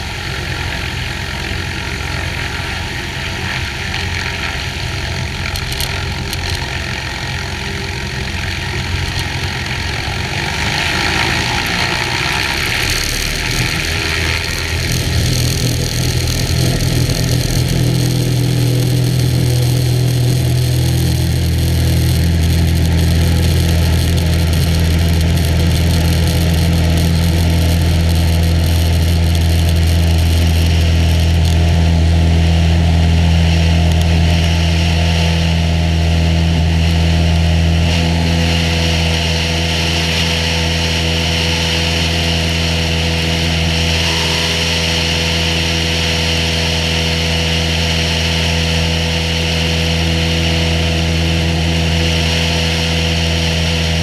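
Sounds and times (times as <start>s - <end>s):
airplane engine and propeller: 0.0s - 54.0s.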